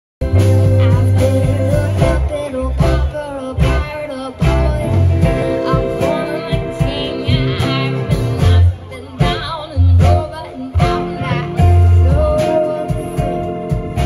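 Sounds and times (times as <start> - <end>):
bass notes: 0.2 - 14.0
drums: 0.2 - 14.0
electric guitar: 0.2 - 14.0
person singing: 0.2 - 14.0.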